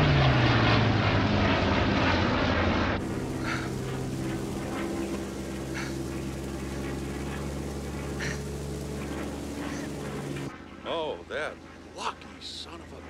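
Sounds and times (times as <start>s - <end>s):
aircraft engines running loud: 0.0s - 13.0s
engine drone in cockpit: 0.0s - 13.0s.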